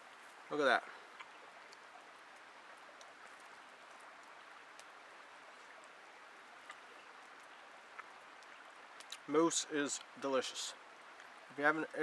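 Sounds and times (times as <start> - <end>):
faint stream rushing: 0.0 - 12.0.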